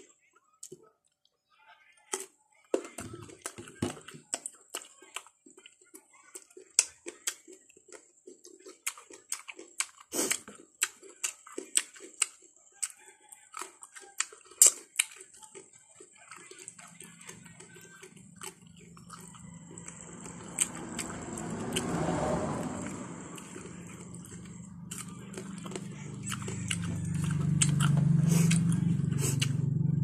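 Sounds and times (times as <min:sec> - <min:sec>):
wet chewing and lip-smacking: 0:03.3 - 0:22.2, 0:23.4 - 0:29.7.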